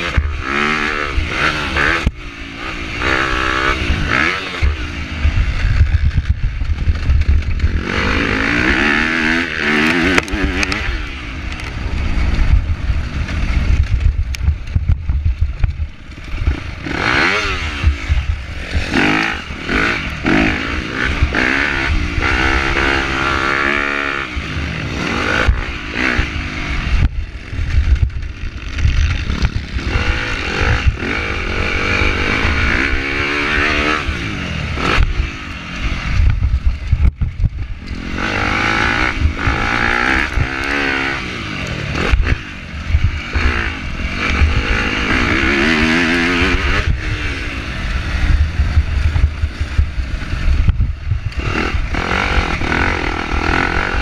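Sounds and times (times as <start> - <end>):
dirt bike engine revving: 0.0 - 54.0
low rumble: 0.0 - 54.0.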